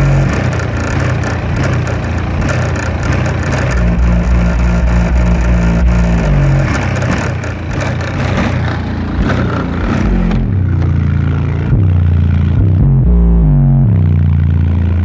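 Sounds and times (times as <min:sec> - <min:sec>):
bass-heavy music through subwoofer: 0:00.0 - 0:00.6, 0:03.0 - 0:15.0.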